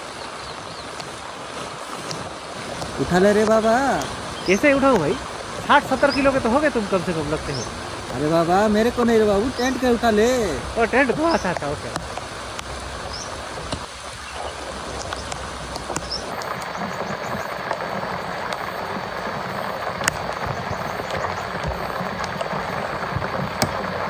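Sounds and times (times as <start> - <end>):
heavy rain falling: 0.0 - 24.0
sharp rain taps: 0.0 - 24.0.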